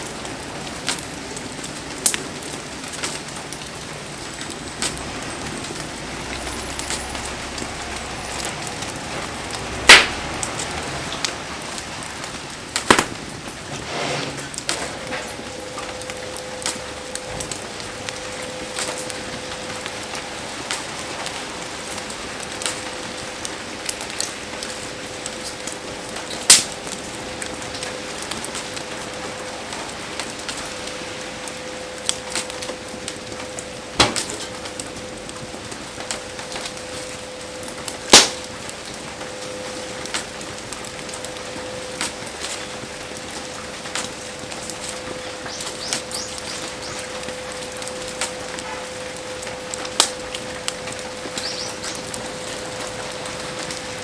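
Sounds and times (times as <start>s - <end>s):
heavy rain hissing: 0.0s - 54.0s
wood fire crackling and popping: 0.0s - 54.0s.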